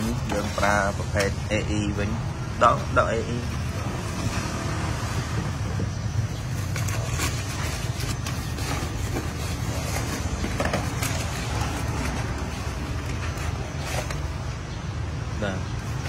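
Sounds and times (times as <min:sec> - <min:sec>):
boxes and cardboard handled: 0:00.0 - 0:16.0.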